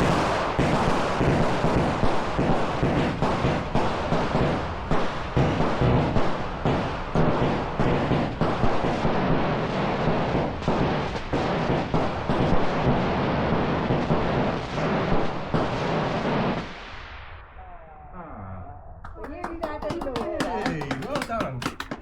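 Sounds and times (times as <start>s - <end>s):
fireworks crackling and hissing: 0.0s - 17.6s, 19.1s - 22.0s
fireworks bangs: 0.0s - 17.9s, 19.0s - 22.0s.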